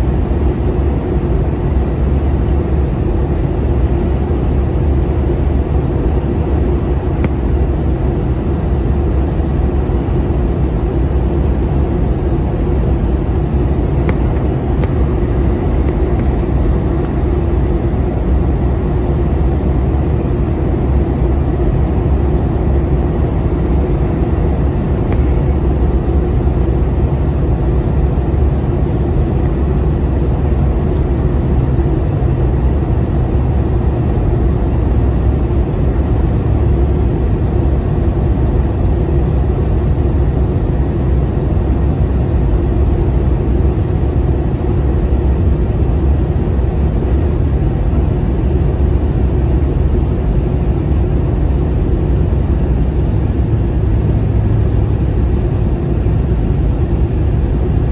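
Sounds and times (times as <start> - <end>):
airliner cabin rumble: 0.0 - 57.9
rushing airflow: 1.7 - 57.9.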